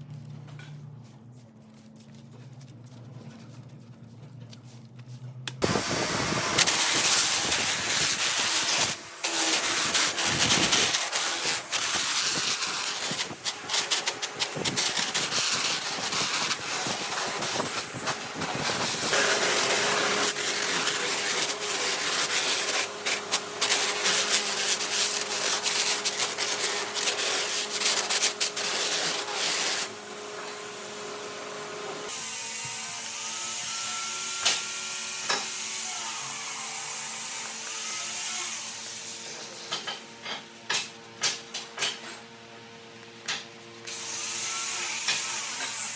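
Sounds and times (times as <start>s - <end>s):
steady motor hum: 0.0s - 37.7s, 38.4s - 45.9s
power tools scraping wood: 5.6s - 42.3s, 42.9s - 45.9s.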